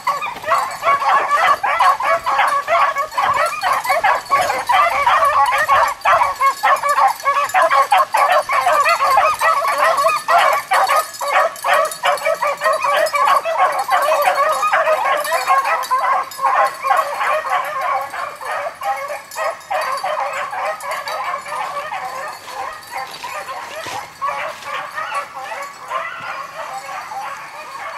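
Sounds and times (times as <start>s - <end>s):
hounds baying: 0.0s - 27.9s.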